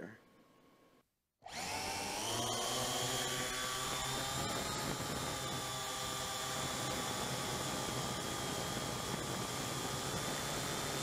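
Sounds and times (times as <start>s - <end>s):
quadcopter propellers whining: 1.4s - 11.0s.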